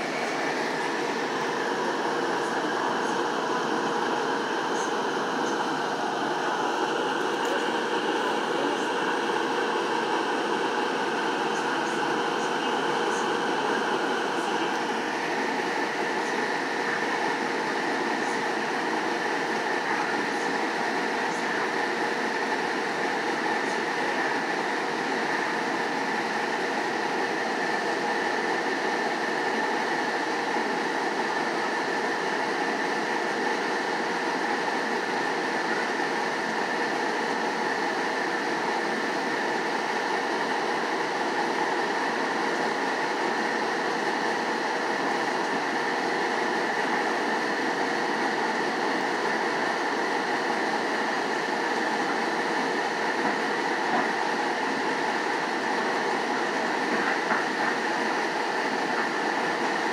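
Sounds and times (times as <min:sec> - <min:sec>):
steady hum: 0:00.0 - 0:59.9
train wheels on track: 0:00.0 - 0:59.9.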